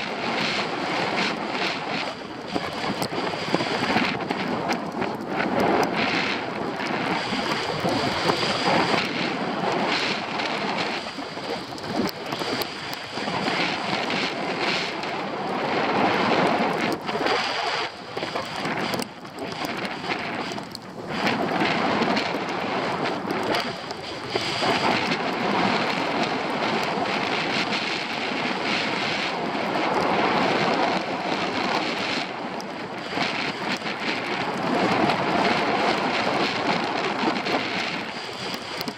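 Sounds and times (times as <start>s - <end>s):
skis scraping on snow: 0.0s - 38.9s
wind rushing over microphone: 0.0s - 38.9s.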